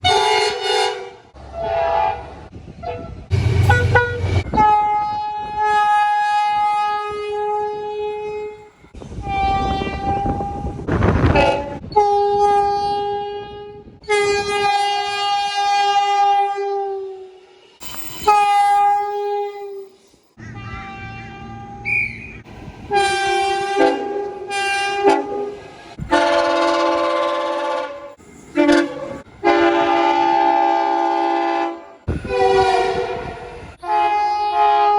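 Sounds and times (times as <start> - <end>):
train rolling by on rails: 0.0 - 13.5, 14.6 - 20.4, 22.5 - 34.0
locomotive air horn blasts: 0.0 - 17.4, 18.3 - 21.8, 22.6 - 34.9.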